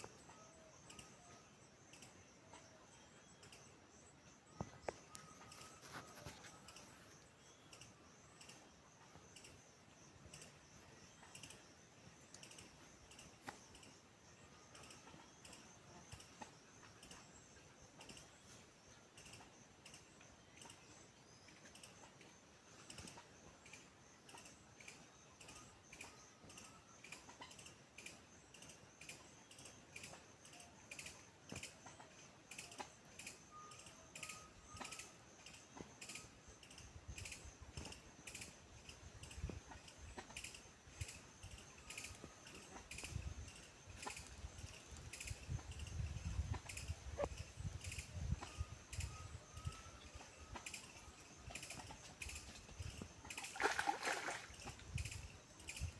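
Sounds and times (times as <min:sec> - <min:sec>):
high-pitched insect trill: 0:00.0 - 0:55.9.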